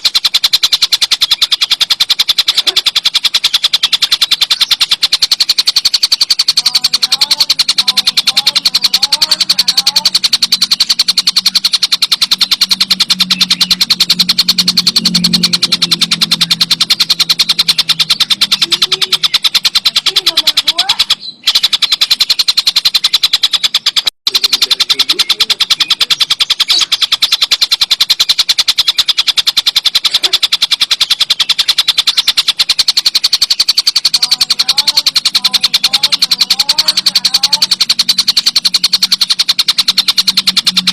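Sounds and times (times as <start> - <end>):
kingfisher rattling trill: 0.0 - 40.9.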